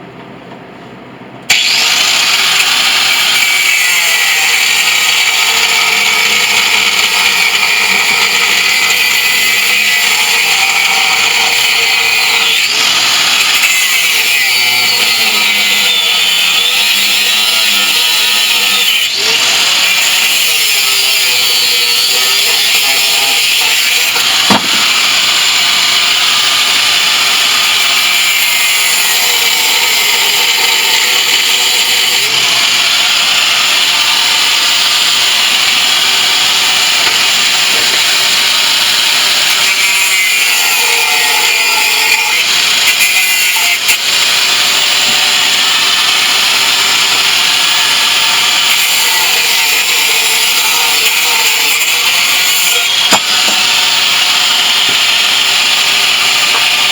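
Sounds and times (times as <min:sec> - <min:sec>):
angle grinder grinding: 0:01.5 - 0:56.9.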